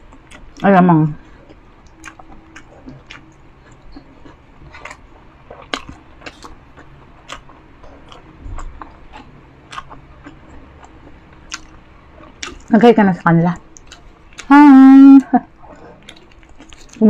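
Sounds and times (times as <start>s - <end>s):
chewing crispy food crunches: 0.1s - 12.7s, 13.6s - 14.5s, 16.0s - 17.0s.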